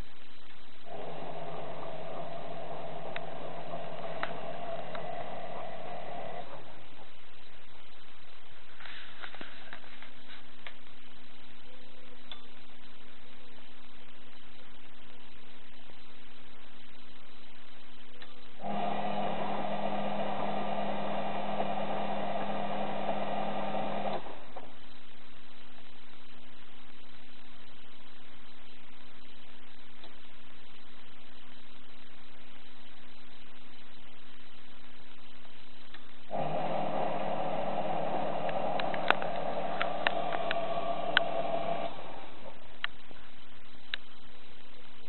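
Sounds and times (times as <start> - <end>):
washing machine motor humming: 0.0 - 45.0.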